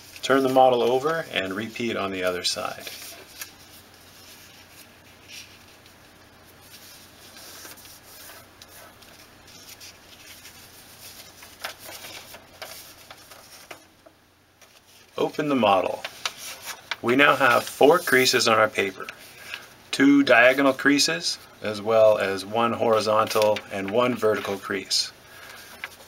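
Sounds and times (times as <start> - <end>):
paper rustling and crinkling: 0.0 - 19.7, 22.6 - 26.0
paper creases crackling: 0.0 - 26.0.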